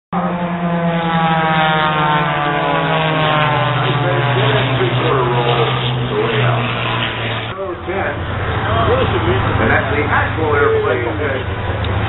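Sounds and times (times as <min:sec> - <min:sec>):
propeller airplane flying past: 0:00.2 - 0:12.0.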